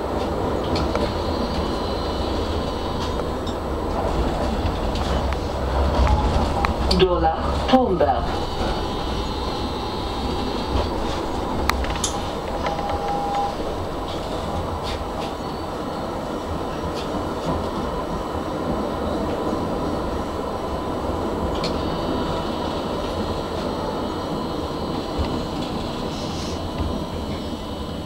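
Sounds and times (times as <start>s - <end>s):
tram wheels rumbling on rail: 0.0s - 28.0s.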